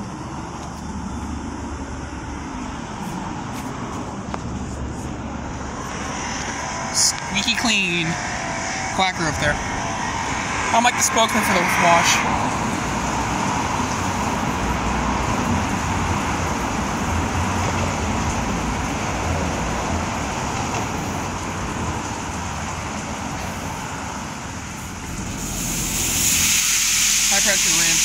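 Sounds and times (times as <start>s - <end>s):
car wash machinery and spray: 0.0s - 28.0s
low rumble: 0.9s - 27.3s.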